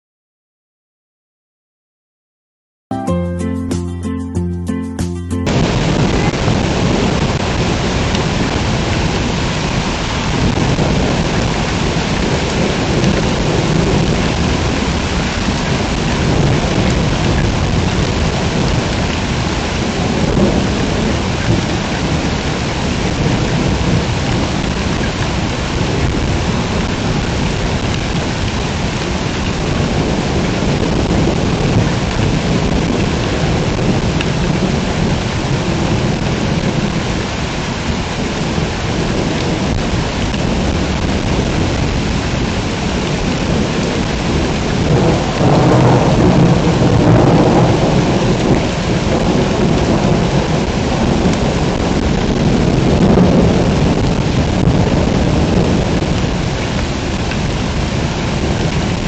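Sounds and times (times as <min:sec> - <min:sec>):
deep thunder rumble: 0:05.5 - 0:59.0
heavy rain pouring: 0:05.5 - 0:59.0.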